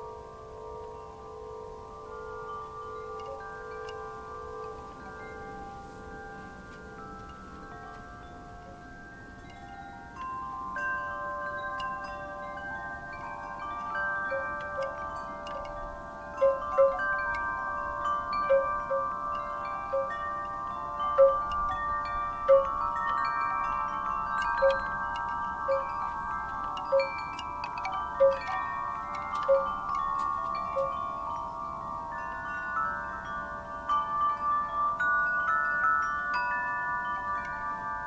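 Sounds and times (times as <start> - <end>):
wind chimes ringing: 0.0 - 38.0.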